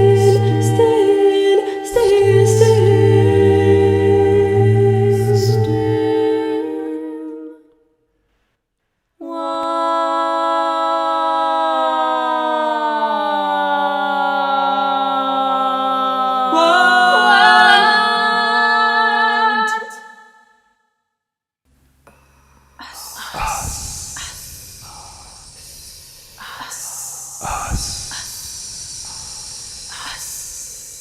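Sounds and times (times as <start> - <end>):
a cappella voices singing: 0.0 - 7.8, 9.2 - 20.4, 22.8 - 31.0.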